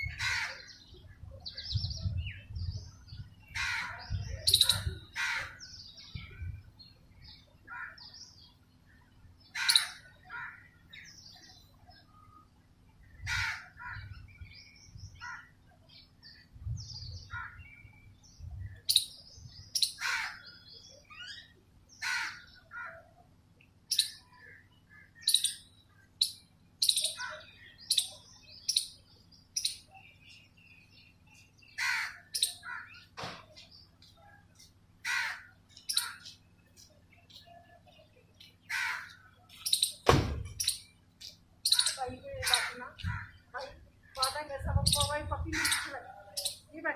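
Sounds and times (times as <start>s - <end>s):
birds calling harshly: 0.0s - 2.4s, 3.3s - 12.4s, 13.0s - 23.2s, 23.8s - 46.9s.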